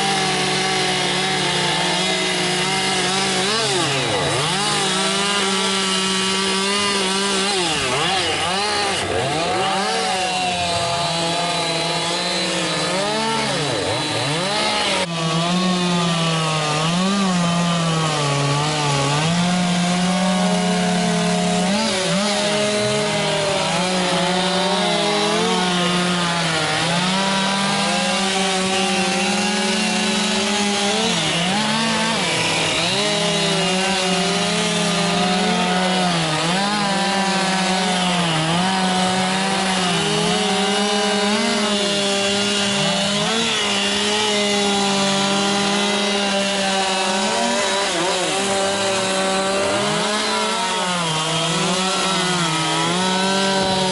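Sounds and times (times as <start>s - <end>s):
chainsaws carving wood: 0.0s - 53.9s.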